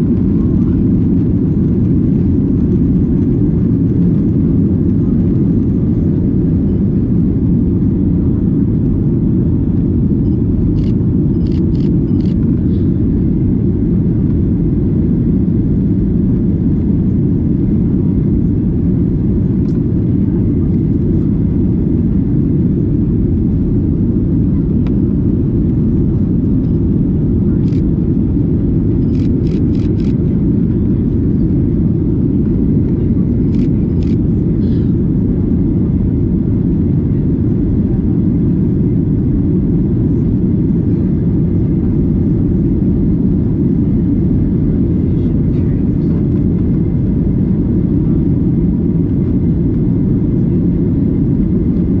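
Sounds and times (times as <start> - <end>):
airplane cabin drone: 0.0 - 52.0.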